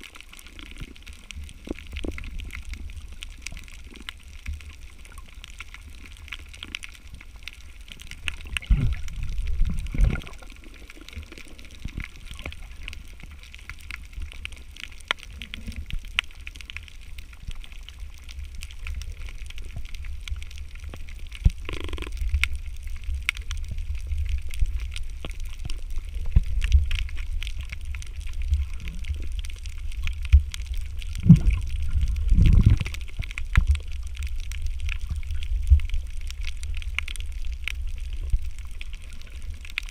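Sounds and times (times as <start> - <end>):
low water surges: 0.0 - 39.9
underwater rumble of moving water: 0.0 - 39.9
faint clicks: 0.3 - 39.9.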